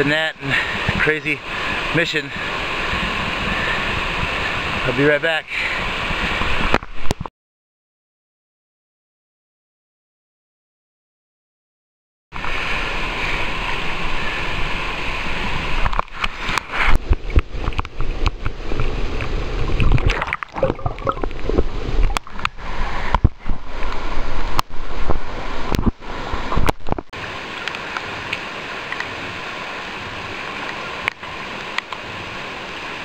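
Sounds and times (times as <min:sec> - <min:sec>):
river rushing over rapids: 0:00.0 - 0:06.8, 0:12.4 - 0:33.0.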